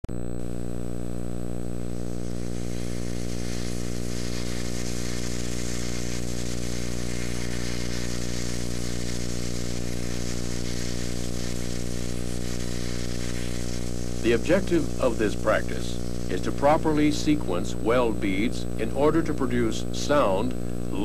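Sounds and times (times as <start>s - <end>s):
electrical buzz: 0.0s - 21.0s
tape hiss: 0.0s - 21.0s.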